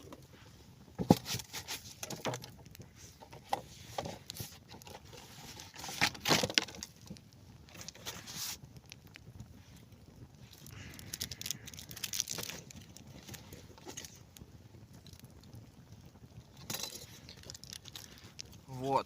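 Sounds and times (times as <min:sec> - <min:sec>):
packaging rustling and crinkling: 0:00.0 - 0:09.8, 0:10.4 - 0:14.4, 0:16.6 - 0:18.8.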